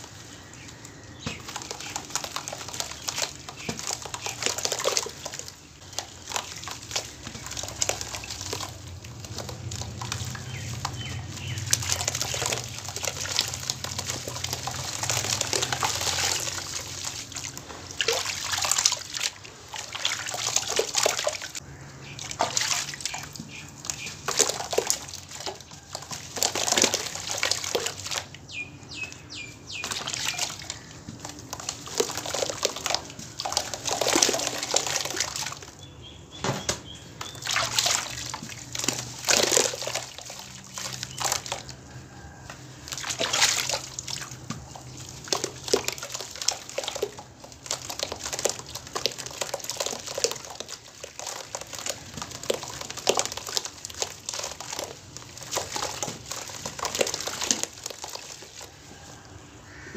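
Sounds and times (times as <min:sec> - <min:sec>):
wet chunks crumbled by hand: 0:00.0 - 0:35.9, 0:36.8 - 0:59.2
water splashing and sloshing: 0:00.0 - 0:59.9.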